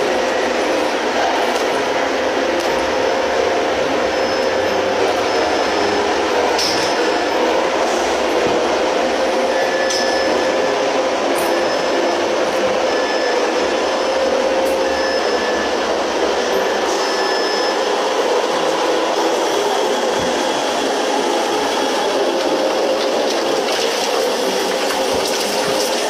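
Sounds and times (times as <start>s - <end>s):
factory machinery drone: 0.0s - 26.0s.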